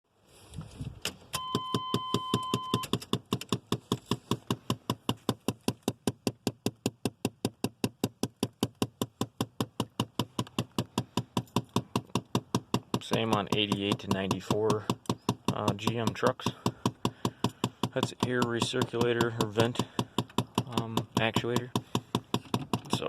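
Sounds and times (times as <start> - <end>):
rapid knocking behind dashboard: 1.8 - 23.0.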